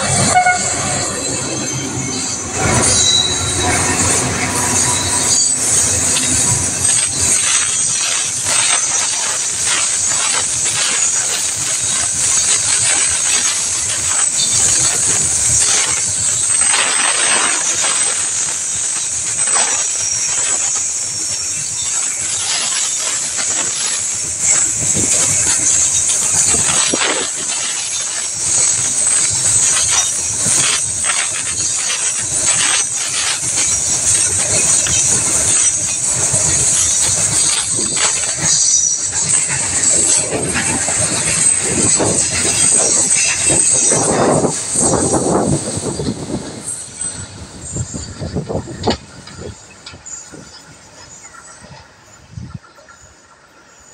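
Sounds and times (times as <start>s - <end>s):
freight train wheels on rails: 0.0s - 53.9s
rhythmic clacking of wheels: 0.0s - 53.9s.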